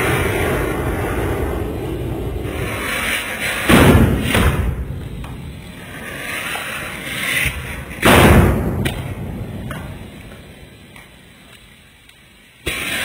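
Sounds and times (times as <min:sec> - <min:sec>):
firecrackers bursting: 0:00.0 - 0:13.0
fountain fireworks hissing: 0:00.0 - 0:13.0.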